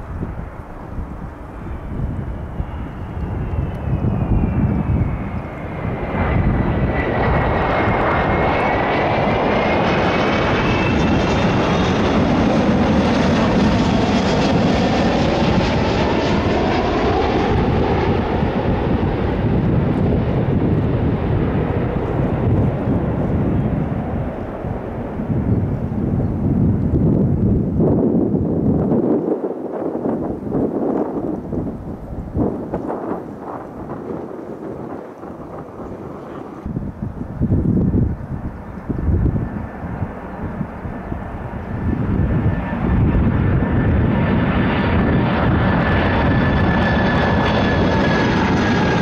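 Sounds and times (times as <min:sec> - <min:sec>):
jet airliner flying over: 0:00.0 - 0:49.0.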